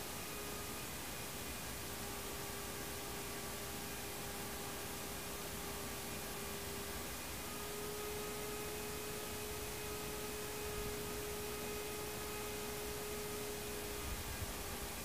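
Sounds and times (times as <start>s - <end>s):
constant humming tone: 0.0s - 15.0s.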